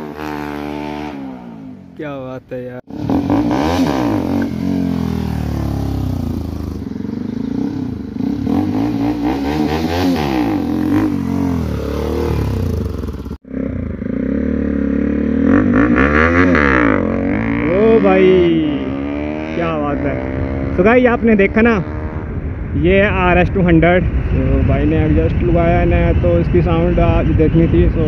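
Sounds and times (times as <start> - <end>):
motorcycle engine revving: 0.0 - 2.0, 2.8 - 28.0.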